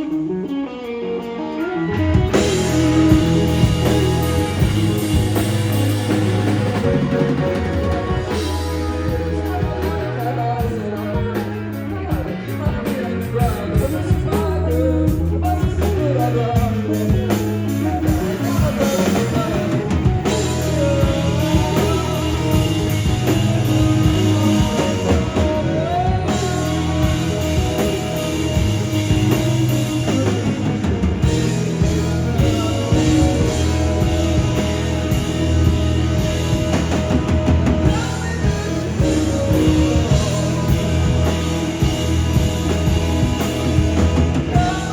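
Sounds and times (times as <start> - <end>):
person singing: 0.0 - 44.9
rock band playing live: 0.0 - 44.9
steady drum beat: 2.2 - 44.9.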